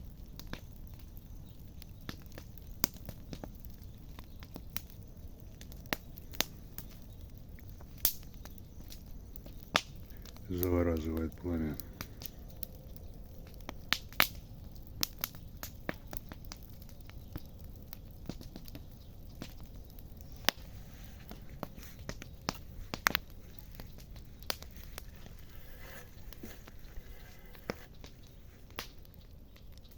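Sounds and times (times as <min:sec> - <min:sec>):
bonfire crackling and popping: 0:00.0 - 0:29.9.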